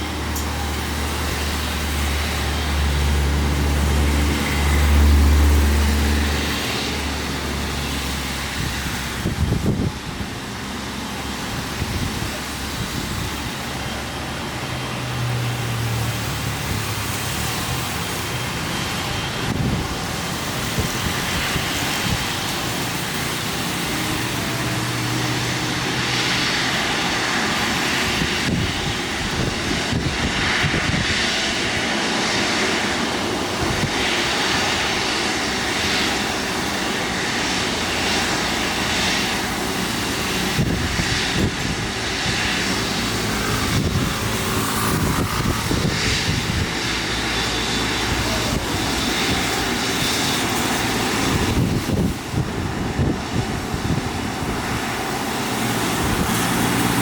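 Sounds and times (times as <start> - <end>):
jet engines at high power: 0.0 - 57.0.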